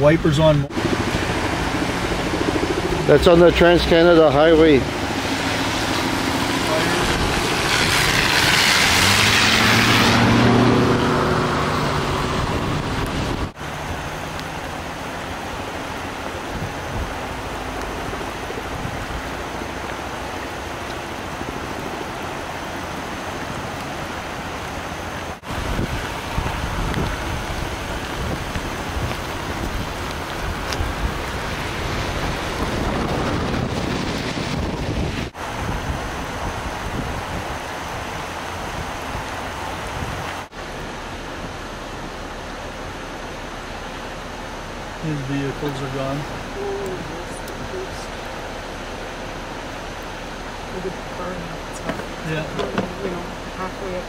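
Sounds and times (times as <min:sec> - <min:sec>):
rain hissing: 0:00.0 - 0:54.0
truck tyres hissing through water: 0:00.0 - 0:54.0
wind: 0:00.0 - 0:54.0.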